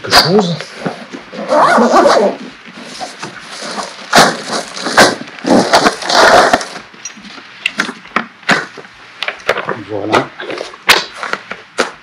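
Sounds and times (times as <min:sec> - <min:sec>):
scraping and rustling of contents: 0:00.0 - 0:12.0.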